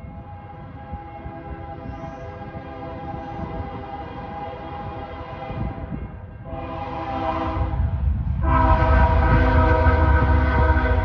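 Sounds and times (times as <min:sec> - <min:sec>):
low locomotive rumble: 0:00.0 - 0:11.0
locomotive air horn blasts: 0:00.2 - 0:05.9, 0:06.5 - 0:11.0.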